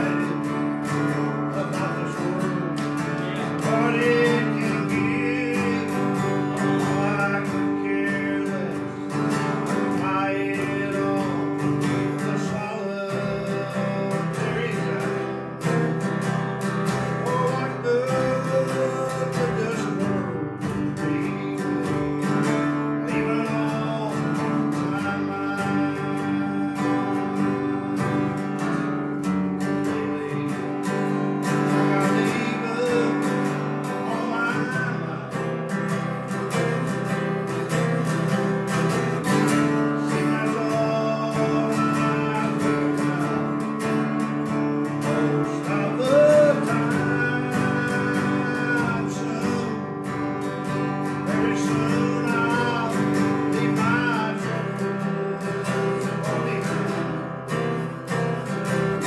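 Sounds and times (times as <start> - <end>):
man singing gospel song: 0.0 - 38.1, 38.7 - 59.0
acoustic guitar strumming: 0.0 - 59.0.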